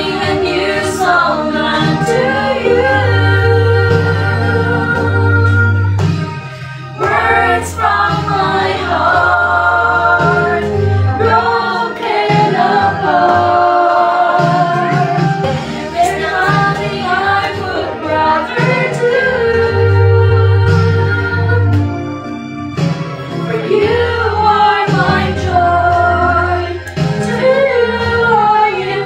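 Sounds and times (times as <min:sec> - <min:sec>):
women singing in harmony: 0:00.0 - 0:22.0, 0:23.4 - 0:29.0.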